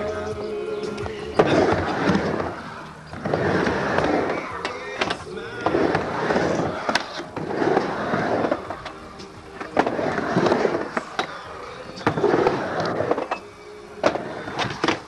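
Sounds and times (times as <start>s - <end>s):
skateboard wheels rolling on wood: 0.0s - 15.0s
skateboard clacking on coping: 0.9s - 15.0s.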